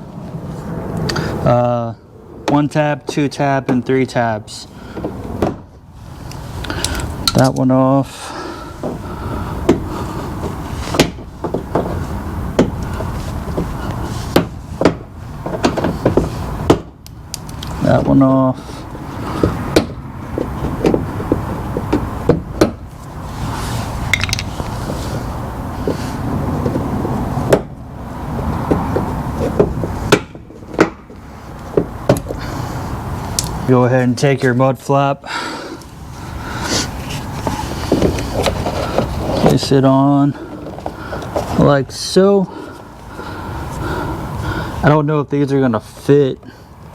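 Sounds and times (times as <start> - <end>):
low background noise: 0.0 - 46.9
steady background hiss: 0.0 - 46.9.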